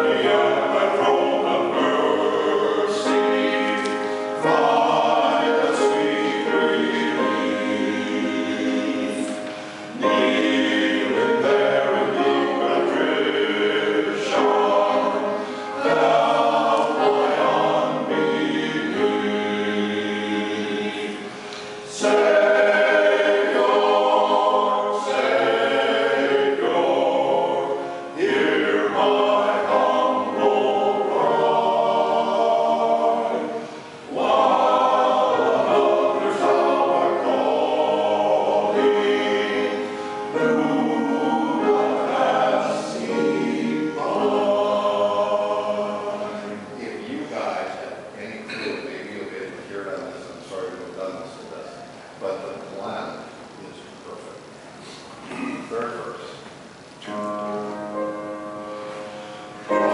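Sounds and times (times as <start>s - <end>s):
men's choir singing a hymn: 0.0s - 54.5s, 55.3s - 59.9s.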